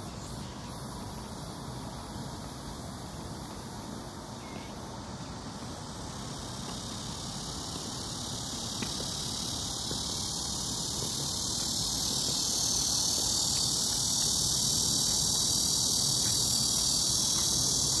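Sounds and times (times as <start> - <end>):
shrill insect chorus: 0.0 - 18.0.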